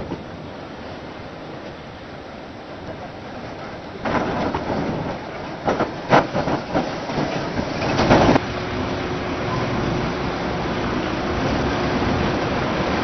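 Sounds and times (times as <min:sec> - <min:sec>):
tram wheels clattering on rails: 0:00.0 - 0:02.0, 0:02.6 - 0:13.0
tram rumble: 0:00.0 - 0:13.0.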